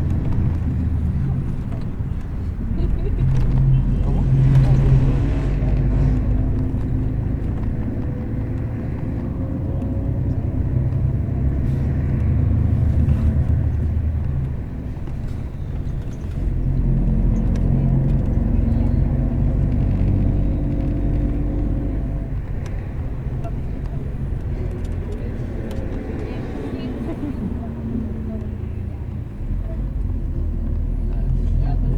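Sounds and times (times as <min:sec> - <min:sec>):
bus engine drone: 0:00.0 - 0:31.9.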